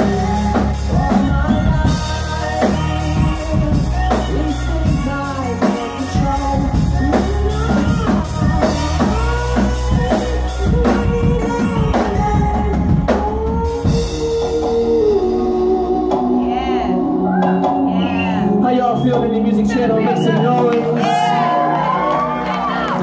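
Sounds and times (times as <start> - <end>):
live rock band with vocals: 0.0 - 23.0.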